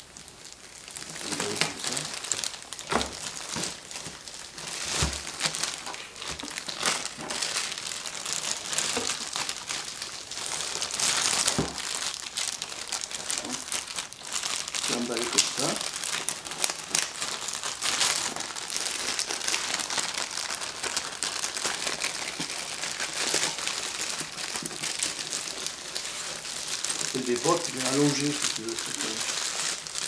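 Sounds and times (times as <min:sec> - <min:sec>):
plastic bag crinkling: 0:00.0 - 0:30.0.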